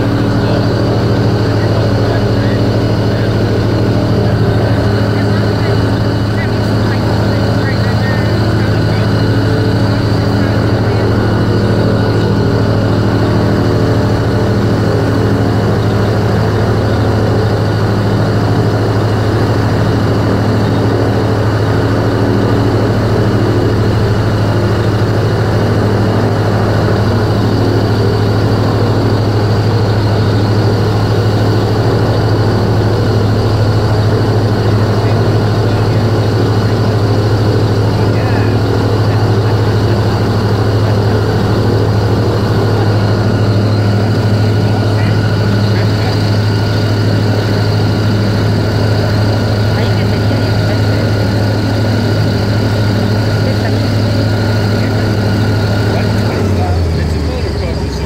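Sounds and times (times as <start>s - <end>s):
airboat engine and propeller: 0.0s - 58.0s.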